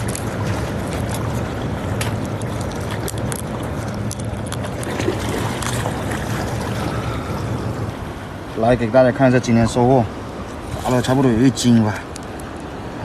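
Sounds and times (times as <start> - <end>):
surf: 0.0 - 13.0.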